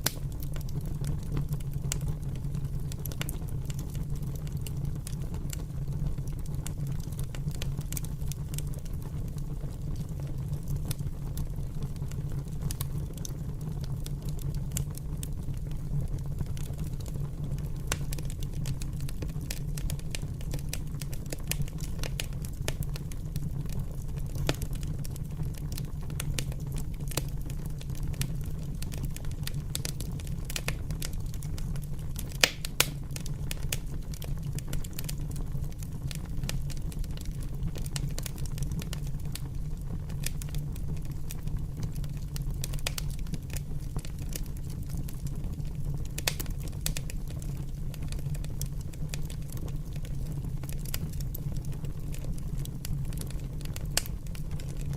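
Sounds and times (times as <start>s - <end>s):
fire crackling: 0.0s - 54.9s.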